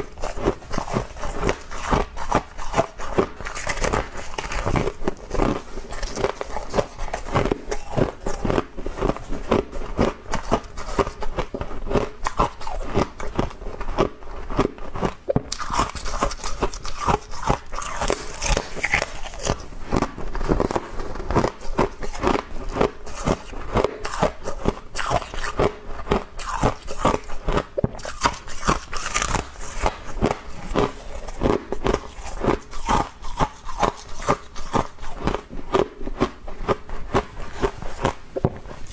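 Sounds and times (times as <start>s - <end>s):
crunching and chewing frost: 0.0s - 38.9s.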